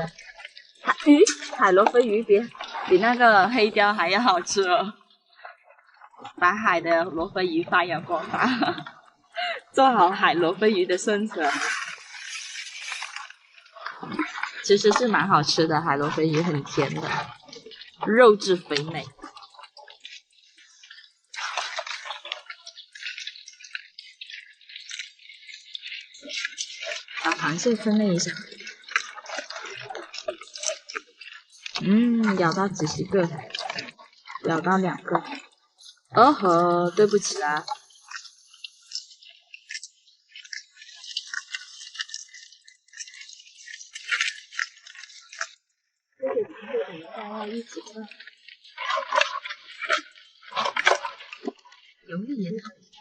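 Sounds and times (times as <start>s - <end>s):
crabs clicking: 0.0s - 46.0s, 47.0s - 53.0s
water dripping and trickling: 0.0s - 46.0s, 46.8s - 53.0s.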